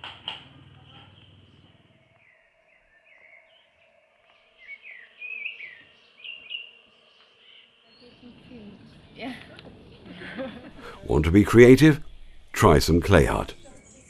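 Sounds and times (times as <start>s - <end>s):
small birds chirping: 0.4s - 10.0s, 10.8s - 14.0s.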